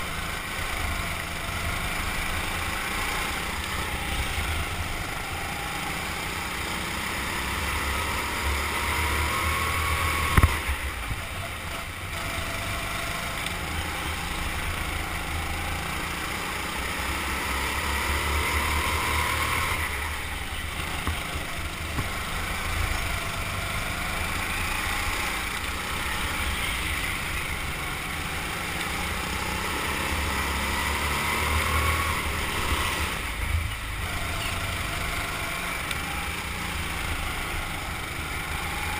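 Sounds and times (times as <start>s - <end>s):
go-kart motor revving: 0.0s - 38.9s.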